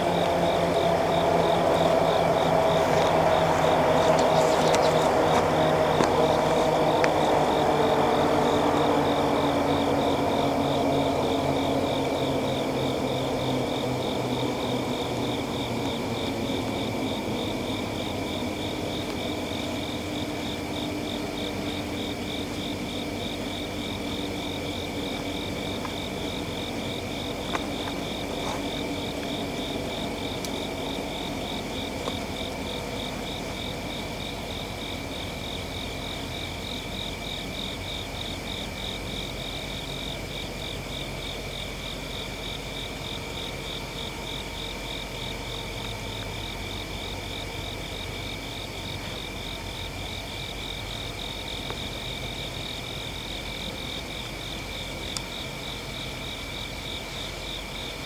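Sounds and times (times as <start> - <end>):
high-pitched insect trill: 0.0 - 58.0
insect pulsing chirp: 0.0 - 58.0.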